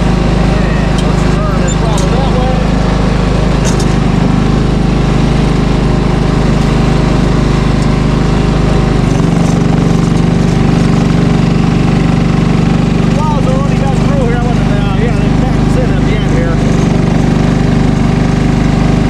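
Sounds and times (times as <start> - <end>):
snowblower engine running: 0.0 - 19.0.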